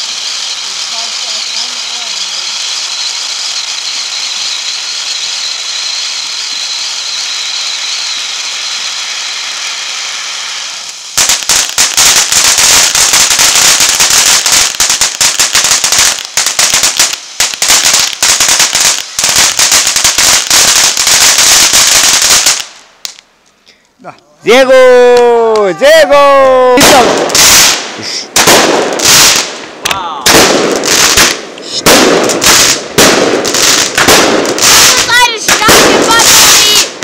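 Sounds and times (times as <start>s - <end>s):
firework fountain hissing: 0.0s - 23.2s, 24.5s - 37.0s
firework crackling: 0.0s - 23.5s, 24.4s - 37.0s.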